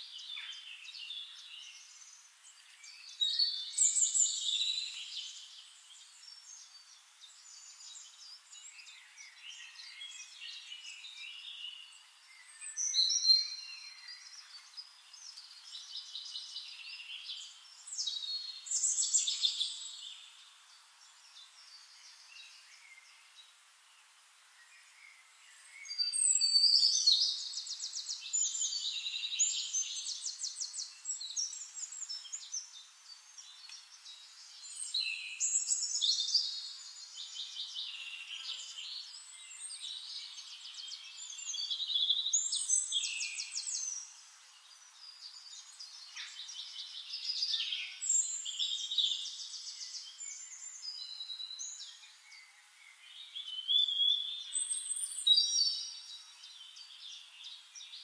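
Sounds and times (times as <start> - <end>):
songbird trills and chirps: 0.0 - 58.0.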